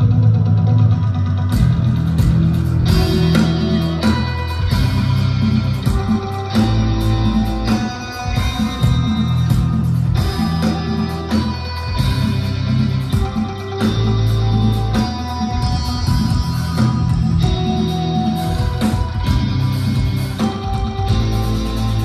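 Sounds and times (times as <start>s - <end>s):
drum kit playing: 0.0s - 22.0s
heavy electric guitar riff: 0.0s - 22.0s.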